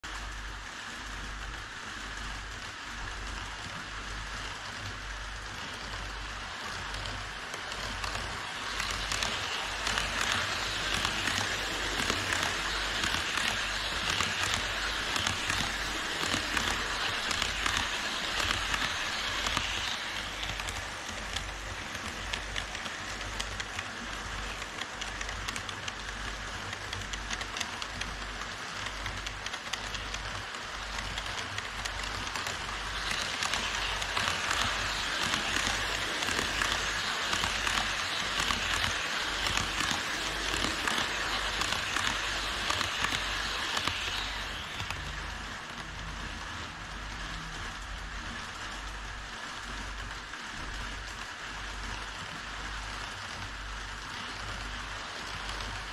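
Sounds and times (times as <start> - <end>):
model train wheels rolling on rails: 0.0 - 55.9.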